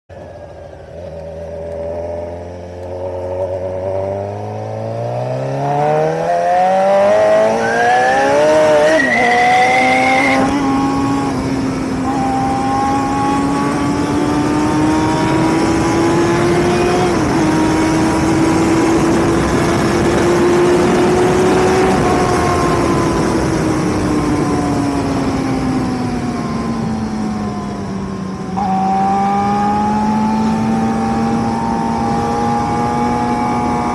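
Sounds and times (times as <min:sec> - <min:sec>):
motorcycle engine accelerating: 0:00.1 - 0:33.9
wind rush: 0:06.7 - 0:33.9.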